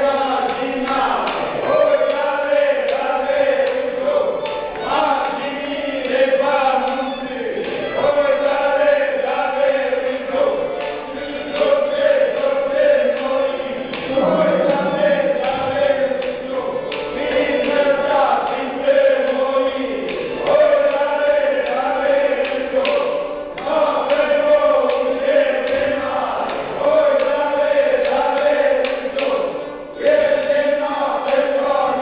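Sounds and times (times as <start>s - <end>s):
group singing folk song in unison: 0.0s - 32.0s.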